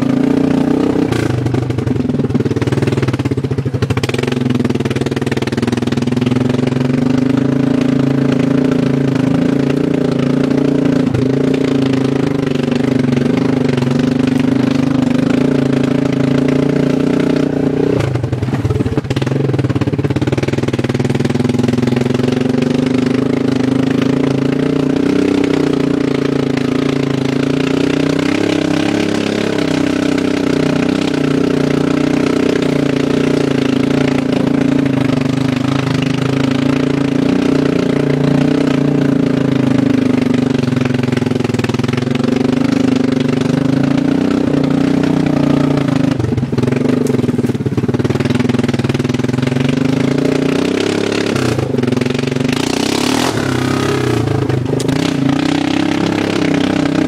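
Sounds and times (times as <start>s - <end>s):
loud straight-piped atv engine: 0.0s - 57.0s.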